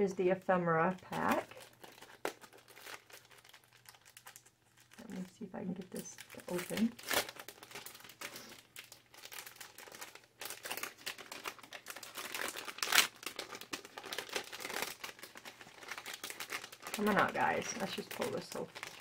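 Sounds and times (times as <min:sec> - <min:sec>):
plastic packaging crinkling: 0:00.8 - 0:19.0.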